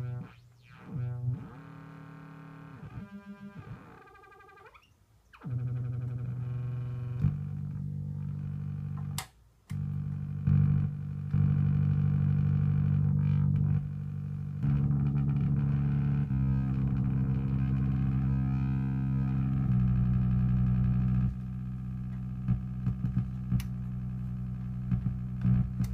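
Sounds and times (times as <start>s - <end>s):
low analog synthesizer notes: 0.0s - 4.8s, 5.4s - 25.9s.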